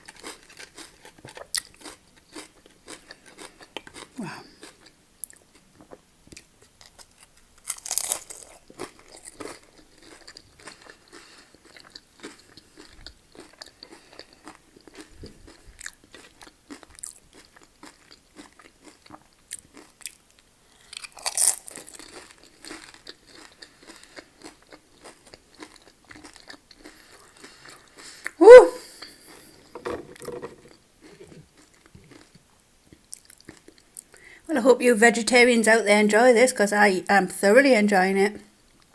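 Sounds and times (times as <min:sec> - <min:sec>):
person crunching and chewing food: 0:00.0 - 0:28.4, 0:30.7 - 0:34.2.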